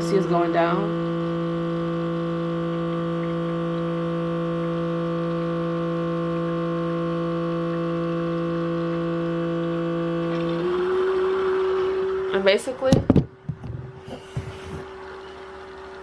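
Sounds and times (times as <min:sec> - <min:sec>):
coffee maker pump humming: 0:00.0 - 0:16.0.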